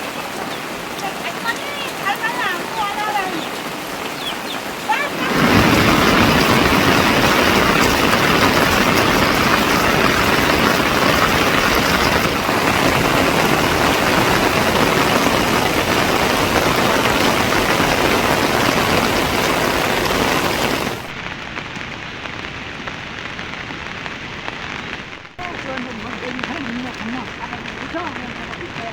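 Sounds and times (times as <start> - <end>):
heavy rain pouring: 0.0 - 28.9.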